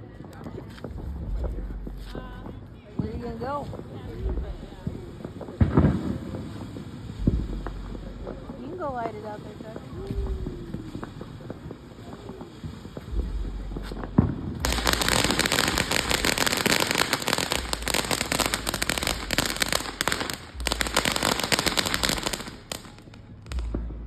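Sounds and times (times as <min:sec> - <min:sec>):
firework crackling pops: 0:00.0 - 0:01.2, 0:01.9 - 0:24.0.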